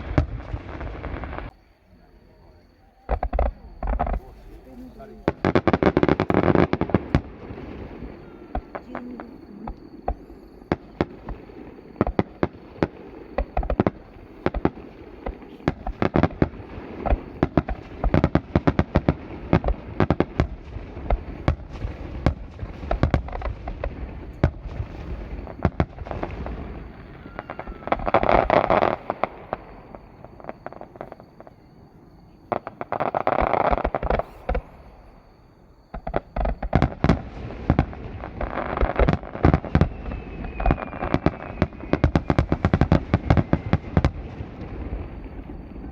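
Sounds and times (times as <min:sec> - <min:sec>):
fireworks bursting and crackling: 0:00.0 - 0:01.6, 0:03.0 - 0:45.9.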